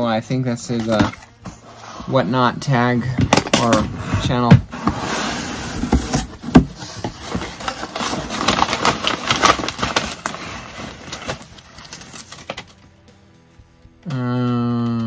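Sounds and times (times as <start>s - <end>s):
cardboard and paper rustling: 0.6s - 12.8s.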